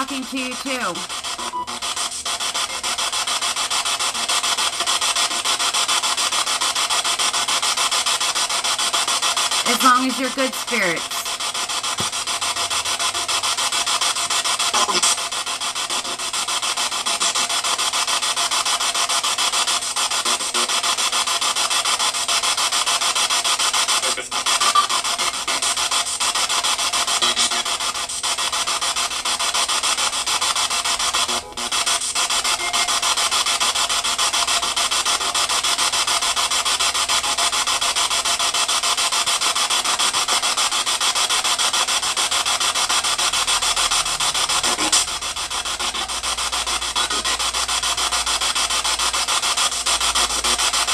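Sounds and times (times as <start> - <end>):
radio static hiss: 0.0 - 50.9.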